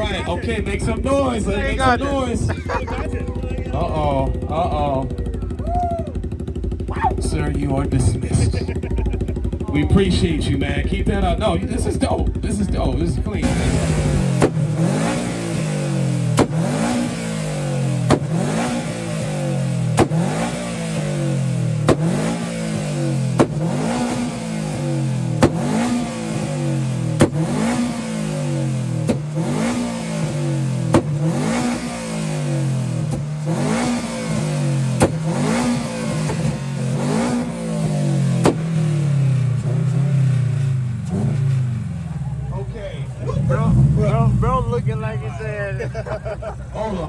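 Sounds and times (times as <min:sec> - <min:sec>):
car engine revving: 0:00.0 - 0:47.0
exhaust cracks: 0:00.0 - 0:47.0.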